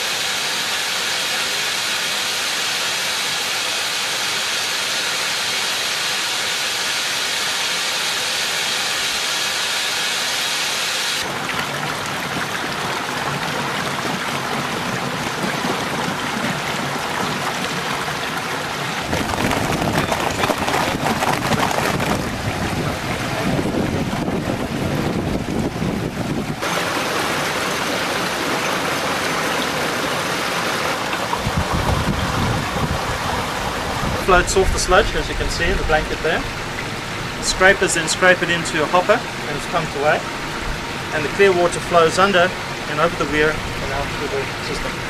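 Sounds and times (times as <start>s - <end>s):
water rushing and frothing: 0.0s - 45.0s.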